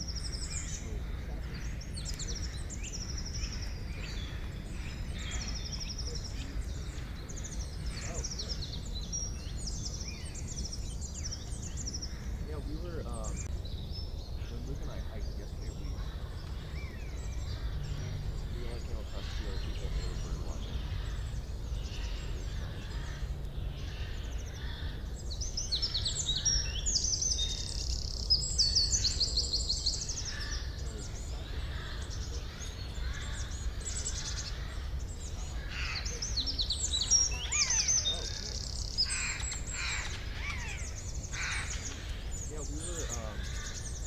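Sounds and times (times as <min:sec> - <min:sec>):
songbirds chirping and trilling: 0:00.0 - 0:44.0.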